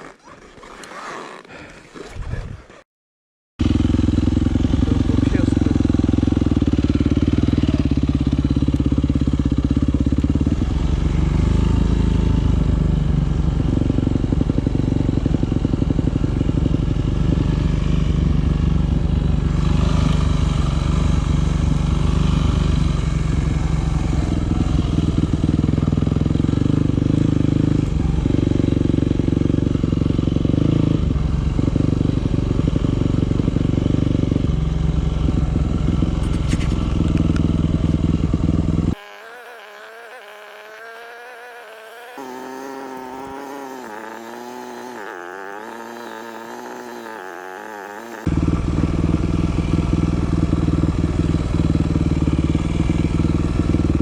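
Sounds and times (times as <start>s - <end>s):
motorcycle engine running hard: 3.6s - 54.0s.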